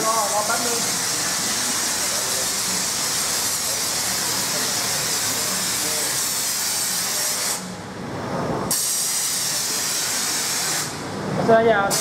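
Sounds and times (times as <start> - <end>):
pressure washer spraying water: 0.0 - 7.7, 8.7 - 11.0.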